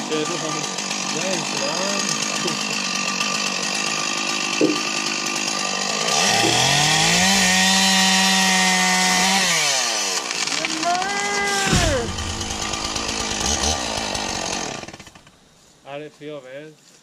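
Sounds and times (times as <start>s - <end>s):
chainsaw cutting wood: 0.0s - 15.6s.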